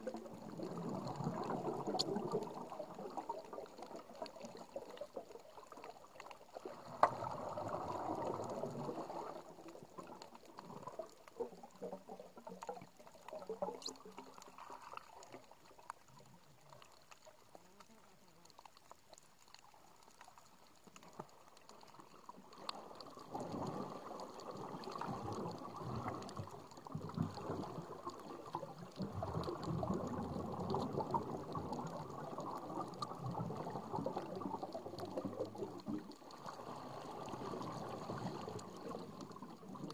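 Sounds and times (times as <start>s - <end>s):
faint clicks: 0.0s - 2.6s, 3.2s - 39.9s
muffled rushing underwater water: 0.0s - 39.9s.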